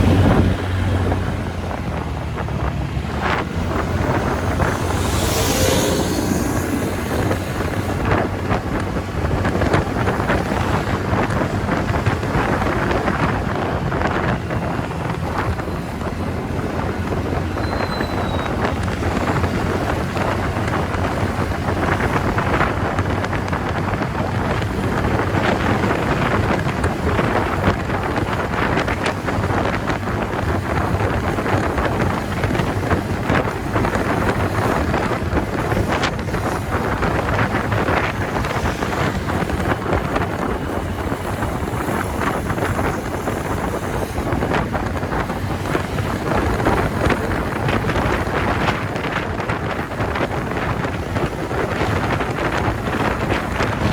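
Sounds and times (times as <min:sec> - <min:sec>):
scooter engine: 0:00.0 - 0:53.9
wind buffeting microphone: 0:00.0 - 0:53.9.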